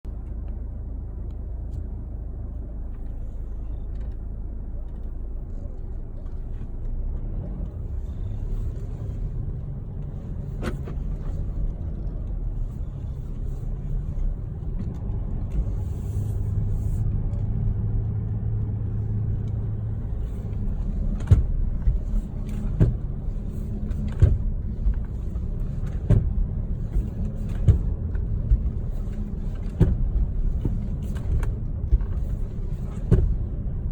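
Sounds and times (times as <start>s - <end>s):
low road rumble: 0.0s - 33.9s.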